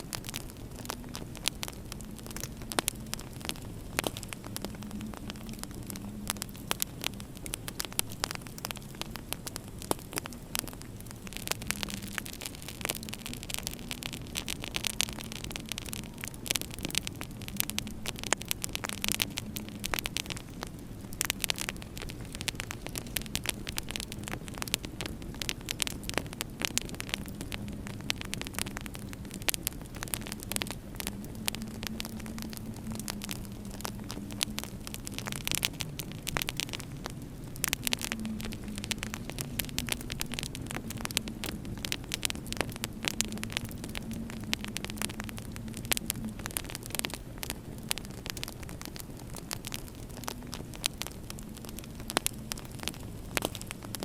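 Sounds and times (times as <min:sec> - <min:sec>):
low steady hum: 0:00.0 - 0:54.0
wood fire crackling and popping: 0:00.0 - 0:54.0.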